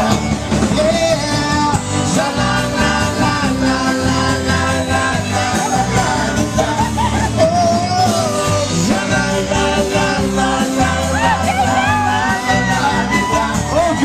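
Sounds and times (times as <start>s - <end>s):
live rock band playing: 0.0s - 14.0s
man singing: 0.0s - 14.0s.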